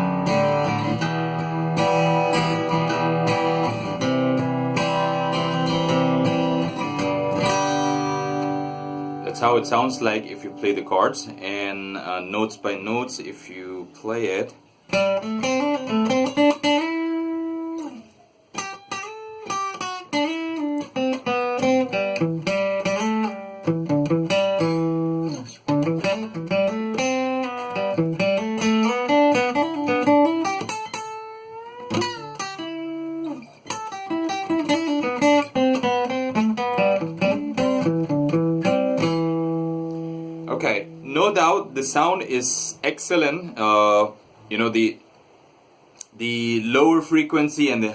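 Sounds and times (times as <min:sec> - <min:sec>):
acoustic guitar melody: 0:00.0 - 0:44.3.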